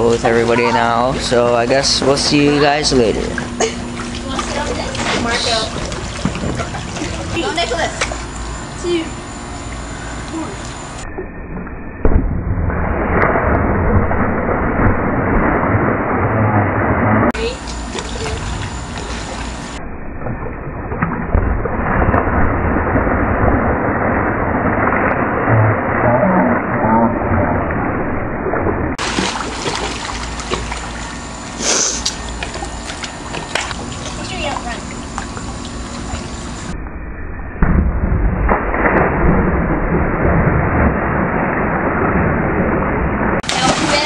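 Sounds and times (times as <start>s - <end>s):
pool water splashing: 0.0s - 11.6s, 12.6s - 36.8s, 38.4s - 44.0s.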